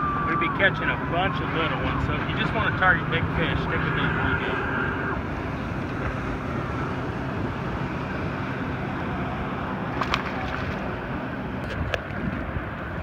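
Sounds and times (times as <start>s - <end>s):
distant motorboats: 0.0s - 13.0s
water noise: 0.0s - 13.0s
wind: 0.0s - 13.0s.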